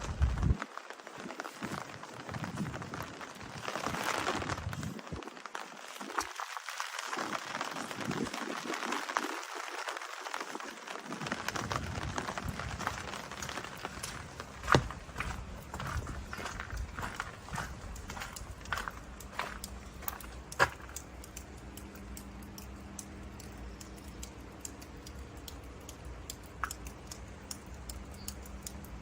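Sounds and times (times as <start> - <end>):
rain falling: 0.0 - 29.0
raindrops ticking: 0.0 - 29.0.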